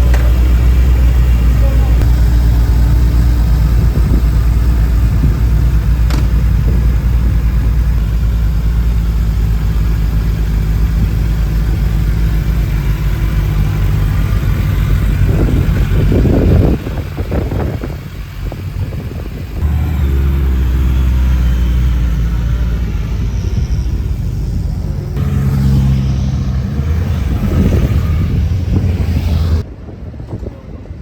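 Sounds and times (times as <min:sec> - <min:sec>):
motorcycle engine idling: 0:00.0 - 0:29.6.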